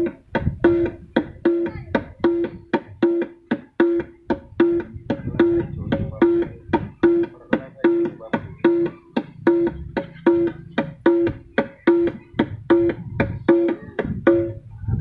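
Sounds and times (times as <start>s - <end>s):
hand drum slaps and tones: 0.0s - 14.7s
low thumps: 0.0s - 15.0s.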